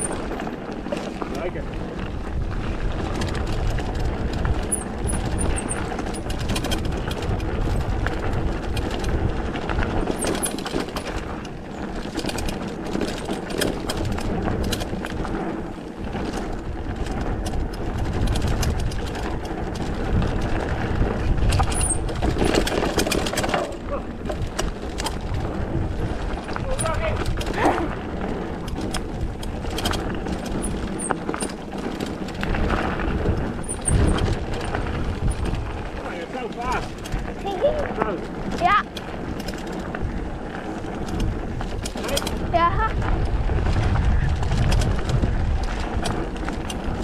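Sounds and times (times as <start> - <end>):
bike rattling clicks: 0.0 - 47.0
tyres crunching over gravel: 0.0 - 47.0
wind rumbling on microphone: 0.0 - 47.0.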